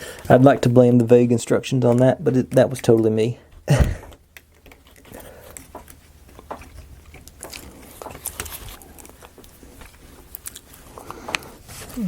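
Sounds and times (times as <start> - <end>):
wooden pieces clicking and tapping: 0.1 - 11.5.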